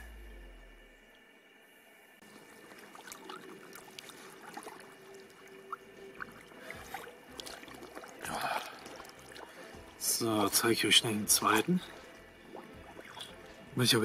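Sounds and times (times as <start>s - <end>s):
small splashes: 2.2s - 14.0s
water sloshing and dripping: 2.2s - 14.0s.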